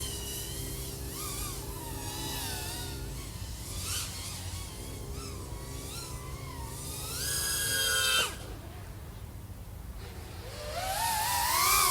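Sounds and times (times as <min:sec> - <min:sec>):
drone motors whining: 0:00.0 - 0:08.8, 0:10.0 - 0:11.9.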